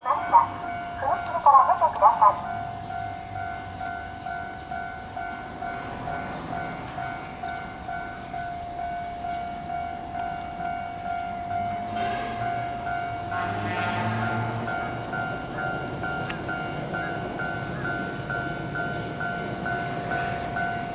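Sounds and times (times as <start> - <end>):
train rumble: 0.0 - 20.9.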